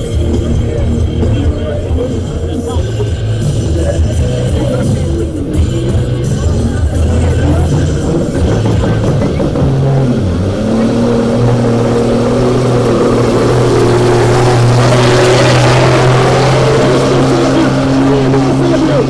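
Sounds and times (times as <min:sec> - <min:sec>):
truck engine under full load: 0:00.0 - 0:19.0.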